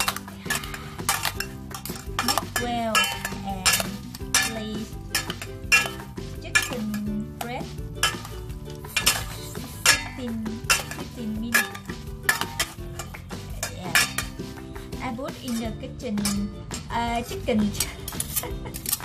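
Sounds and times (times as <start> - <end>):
spoon clinking against metal bowl: 0.0 - 16.9.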